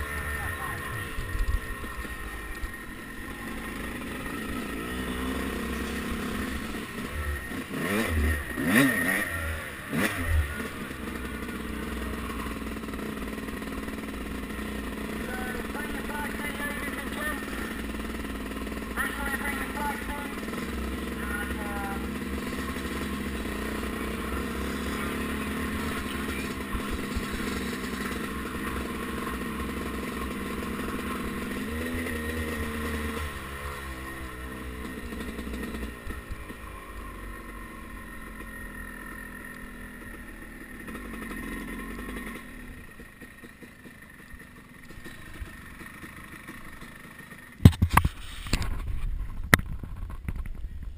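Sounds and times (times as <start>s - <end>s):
two-stroke engine running: 0.0s - 50.9s.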